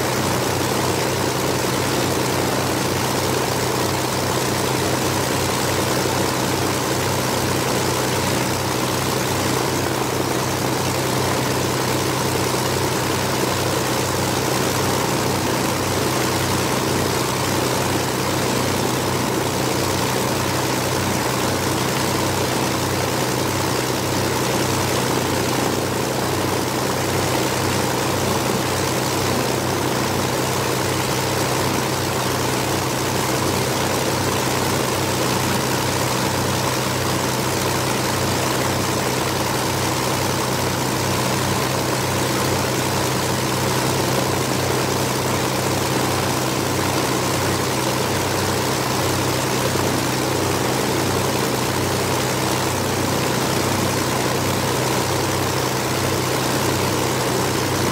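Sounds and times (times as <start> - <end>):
aircraft engines idling: 0.0 - 57.9.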